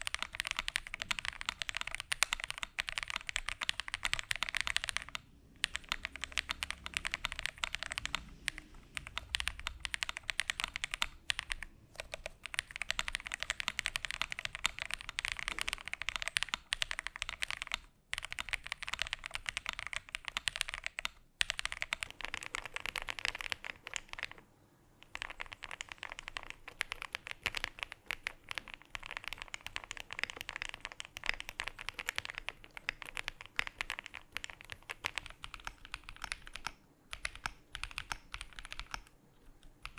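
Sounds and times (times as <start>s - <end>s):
mechanical keyboard typing: 0.0s - 24.4s, 25.0s - 39.9s.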